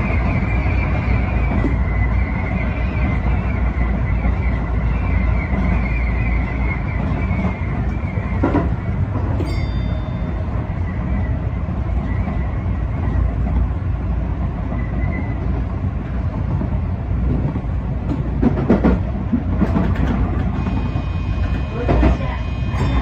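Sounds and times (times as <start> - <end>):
electric train rumbling: 0.0 - 23.0.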